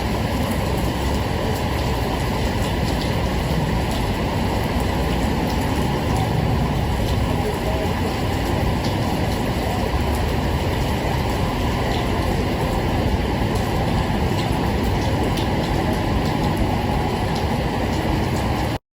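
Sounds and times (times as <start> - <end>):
heavy rain hissing: 0.0 - 18.8.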